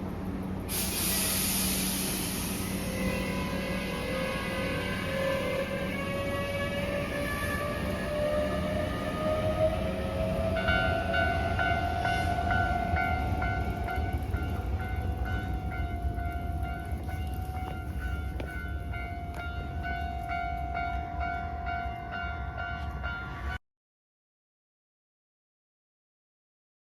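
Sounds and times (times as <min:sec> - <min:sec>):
train rumbling with high whine: 0:00.0 - 0:23.6.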